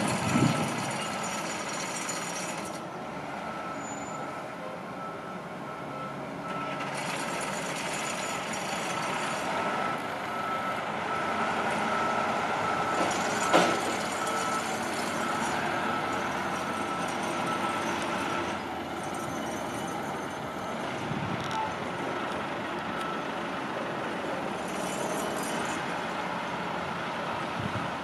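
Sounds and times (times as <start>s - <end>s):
reversing alarm beeping: 0.0s - 23.4s.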